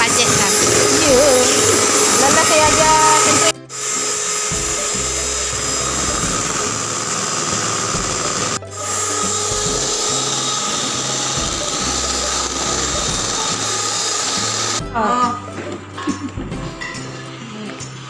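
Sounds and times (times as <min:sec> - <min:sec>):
electric hand mixer whirring: 0:00.0 - 0:18.0.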